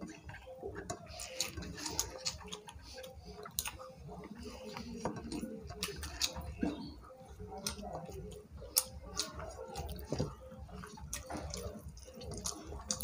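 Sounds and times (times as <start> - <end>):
chewing: 0.0 - 13.0
wet clicks of fingers mixing rice: 0.0 - 13.0.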